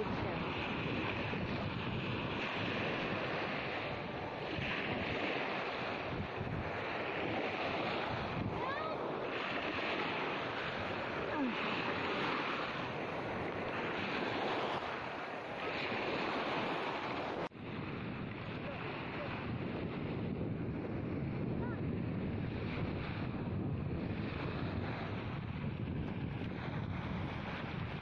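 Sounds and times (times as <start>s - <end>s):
small waves breaking on shore: 0.0s - 28.0s
wind buffeting microphone: 0.0s - 28.0s.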